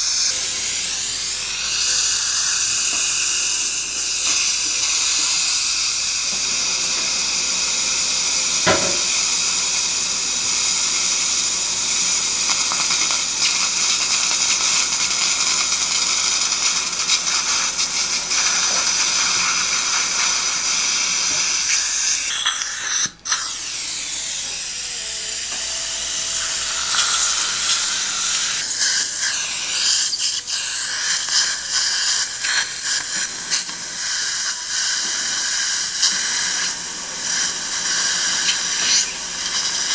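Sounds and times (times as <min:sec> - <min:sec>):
surgical suction hiss: 0:00.0 - 0:09.4, 0:15.8 - 0:24.8, 0:25.4 - 0:39.9
dental handpiece whine: 0:00.0 - 0:39.9.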